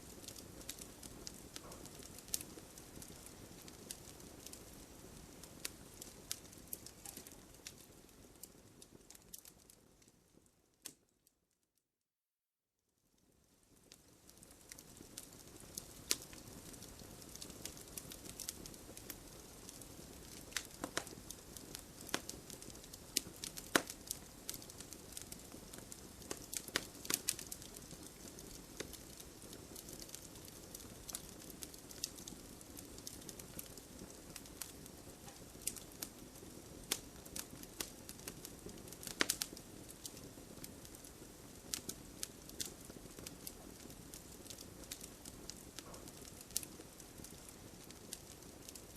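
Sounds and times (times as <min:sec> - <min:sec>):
wood fire burning: 0:00.0 - 0:11.1, 0:13.2 - 0:48.9
crackles and pops of fire: 0:00.0 - 0:11.4, 0:13.1 - 0:48.9.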